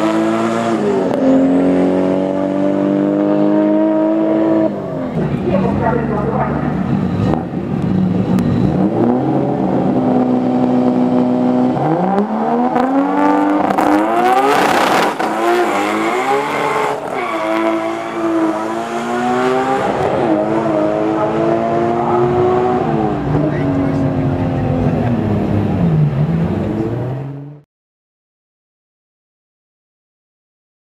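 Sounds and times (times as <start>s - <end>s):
race car engine accelerating: 0.0s - 27.6s.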